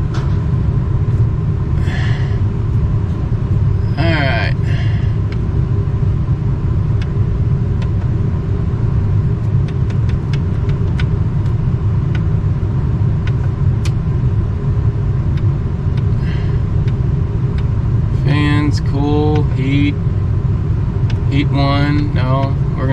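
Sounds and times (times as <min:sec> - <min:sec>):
low rumble: 0:00.0 - 0:22.9.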